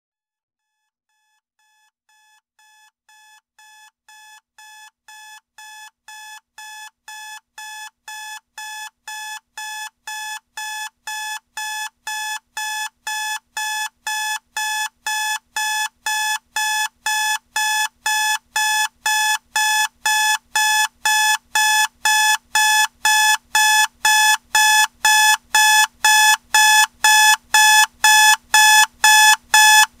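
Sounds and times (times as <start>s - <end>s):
alarm clock beeping: 2.2s - 29.9s.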